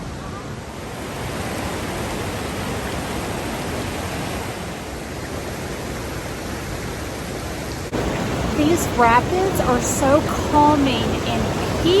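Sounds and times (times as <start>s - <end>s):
rushing whitewater rapids: 0.0s - 12.0s.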